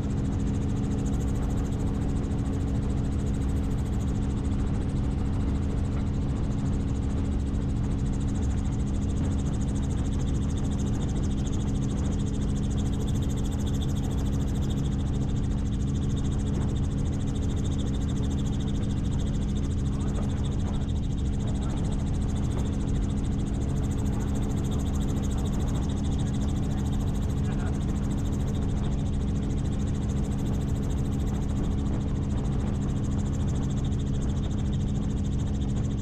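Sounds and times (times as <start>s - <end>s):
helicopter engine and rotors: 0.0s - 36.0s.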